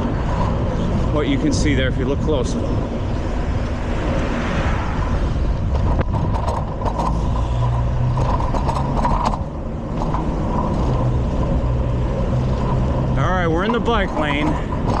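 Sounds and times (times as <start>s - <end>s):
bicycle clicks and rattles: 0.0s - 4.3s, 5.1s - 15.0s
motor vehicle engine hum: 0.0s - 15.0s
road and wind noise: 0.0s - 15.0s.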